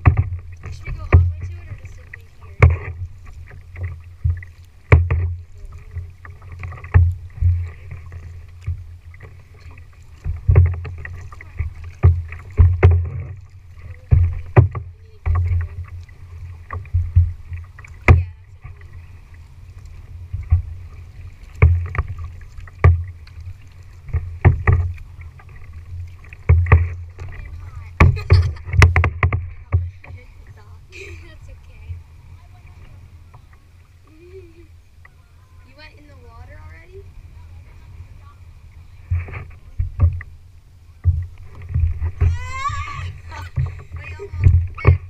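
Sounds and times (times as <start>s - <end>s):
paddles knocking kayak hull: 0.0s - 34.2s, 35.0s - 45.0s
faint water splashing: 0.0s - 45.0s
water rumbling against hull: 0.0s - 45.0s.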